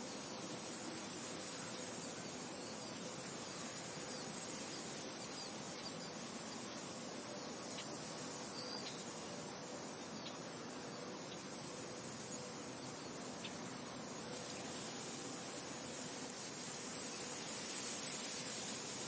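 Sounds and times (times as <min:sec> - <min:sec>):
wind hissing: 0:00.0 - 0:19.0.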